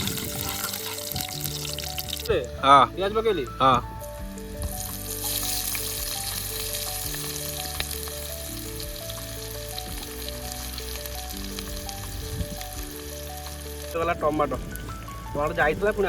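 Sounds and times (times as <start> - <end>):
background music: 0.0 - 16.0
onions sizzling in oil: 0.0 - 16.0.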